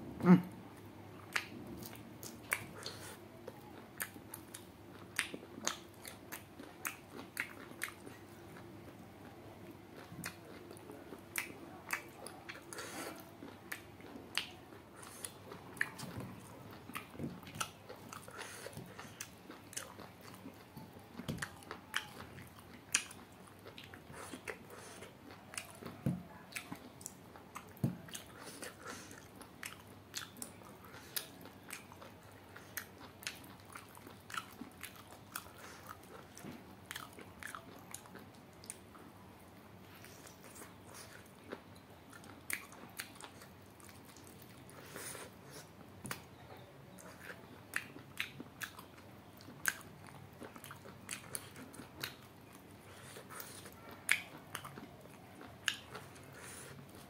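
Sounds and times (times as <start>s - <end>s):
man chewing and biting food: 1.3s - 9.0s, 10.0s - 38.8s, 47.0s - 57.0s.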